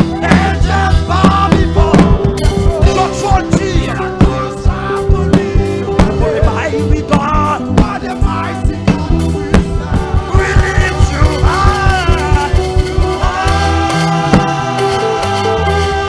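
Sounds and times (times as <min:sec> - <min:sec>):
bass line: 0:00.0 - 0:16.0
drums: 0:00.0 - 0:16.0
person singing: 0:00.0 - 0:16.0
worship band music: 0:00.0 - 0:16.0.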